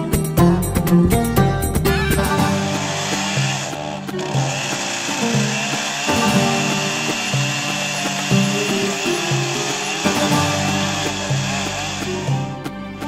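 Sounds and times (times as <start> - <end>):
background music: 0.0 - 13.0
chainsaw cutting wood: 2.2 - 13.0.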